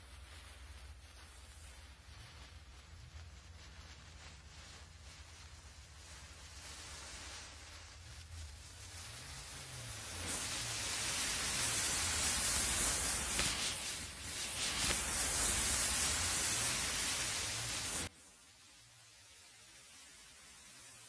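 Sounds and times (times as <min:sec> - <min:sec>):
matches flaring and burning: 0:00.0 - 0:18.1.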